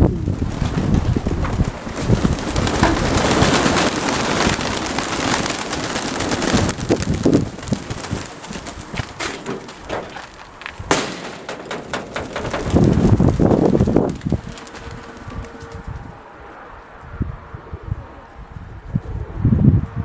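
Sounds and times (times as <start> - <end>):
gusty wind rushing: 0.0 - 11.0, 11.7 - 20.0.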